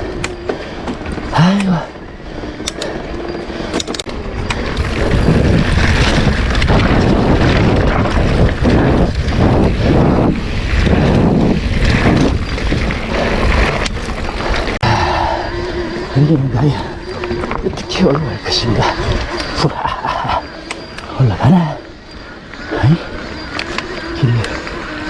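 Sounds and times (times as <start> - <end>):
low rumbling gusts: 0.0 - 25.0
wind buffeting microphone: 0.0 - 25.0.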